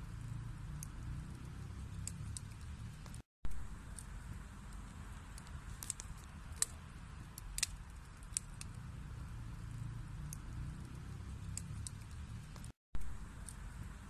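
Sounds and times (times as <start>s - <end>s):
fire burning in a fireplace: 0.0s - 14.0s
burning wood snapping and popping: 0.6s - 9.4s, 10.2s - 13.7s.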